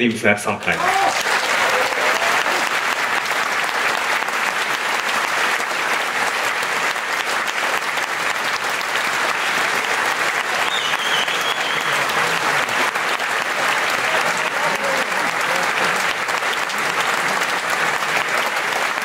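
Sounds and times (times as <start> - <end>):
large audience applauding: 0.5 - 19.0.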